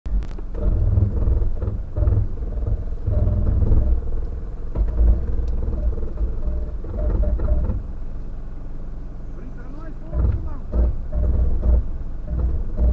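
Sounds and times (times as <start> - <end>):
off-road vehicle rumbling: 0.0 - 12.9.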